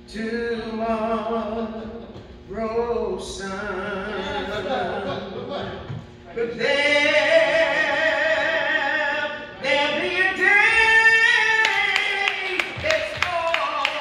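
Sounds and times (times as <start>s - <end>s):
woman singing with vibrato: 0.0s - 5.6s, 6.3s - 14.0s.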